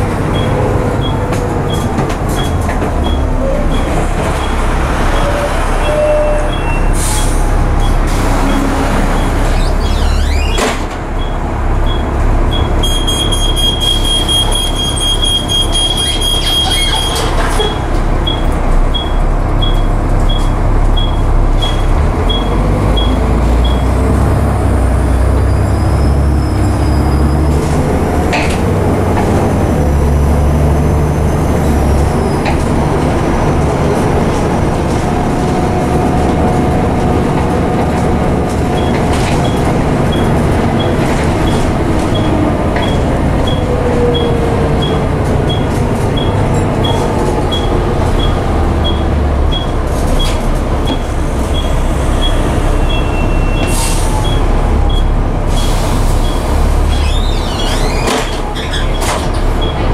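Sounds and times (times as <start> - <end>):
bus engine rumble: 0.0 - 59.9
road noise: 0.0 - 59.9.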